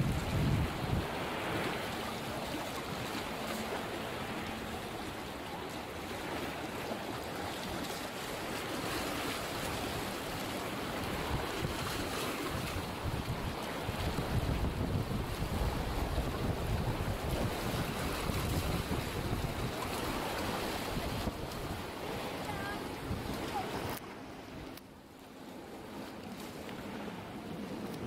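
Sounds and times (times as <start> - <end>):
wind buffeting microphone: 0.0 - 4.2, 4.8 - 24.7
sea waves washing on beach: 0.0 - 28.0.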